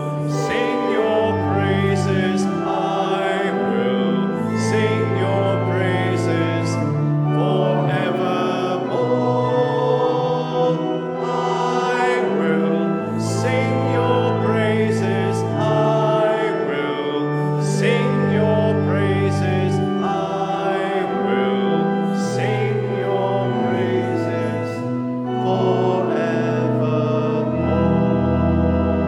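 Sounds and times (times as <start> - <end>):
congregation singing a hymn: 0.0 - 29.0
organ playing bass notes: 0.0 - 29.0.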